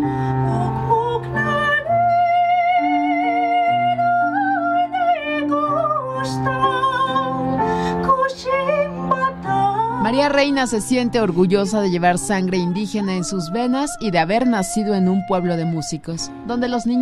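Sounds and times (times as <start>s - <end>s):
soprano singing operatically: 0.2s - 17.0s.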